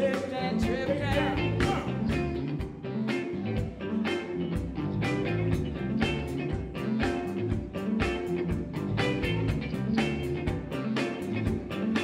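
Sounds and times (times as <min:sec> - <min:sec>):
drums with steady beat: 0:00.0 - 0:12.0
electric guitar: 0:00.0 - 0:12.0
low repeating bass notes: 0:00.5 - 0:12.0.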